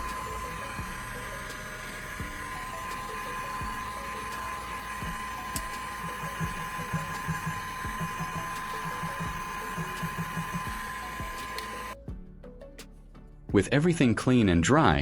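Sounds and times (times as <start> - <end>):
heat gun blowing with whine: 0.0 - 12.1.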